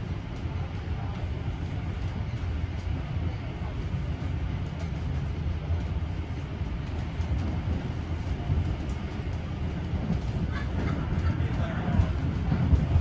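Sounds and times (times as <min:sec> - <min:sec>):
rattling wheel and track noise: 0:00.0 - 0:13.0
train carriage rumble: 0:00.0 - 0:13.0.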